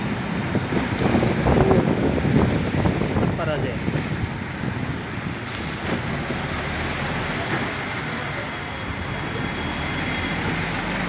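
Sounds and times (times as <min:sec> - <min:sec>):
rushing outdoor noise: 0:00.0 - 0:11.0.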